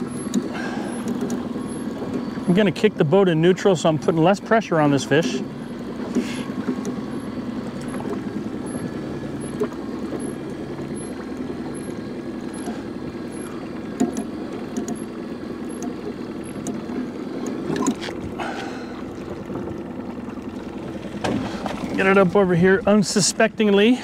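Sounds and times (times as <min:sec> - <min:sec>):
outboard motor idling: 0:00.0 - 0:24.0
water noise: 0:00.0 - 0:24.0
wind: 0:00.0 - 0:24.0.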